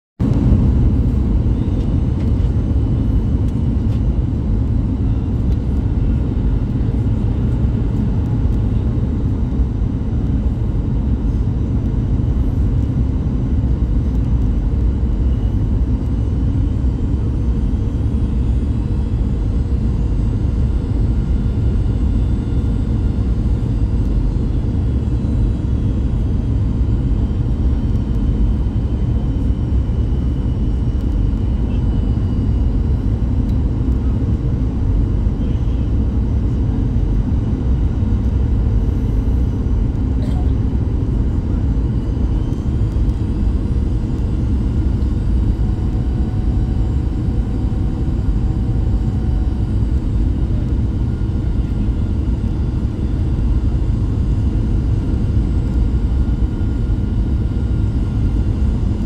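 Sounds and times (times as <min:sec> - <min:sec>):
jet engine and airflow rumble: 0:00.2 - 0:59.0.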